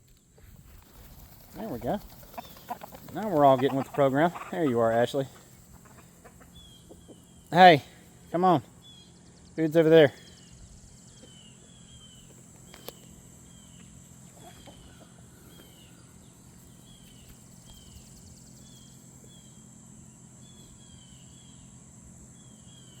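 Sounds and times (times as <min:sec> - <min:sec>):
bird chirping: 0:00.0 - 0:23.0
insect drone: 0:00.0 - 0:23.0.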